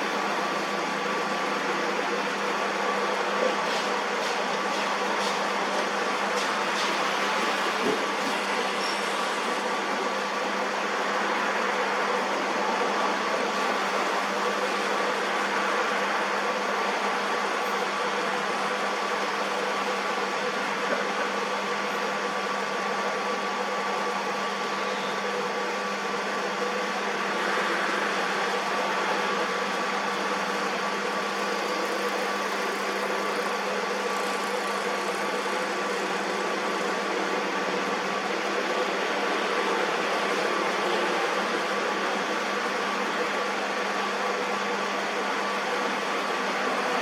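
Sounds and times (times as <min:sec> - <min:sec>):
metal lathe humming: 0:00.0 - 0:47.0.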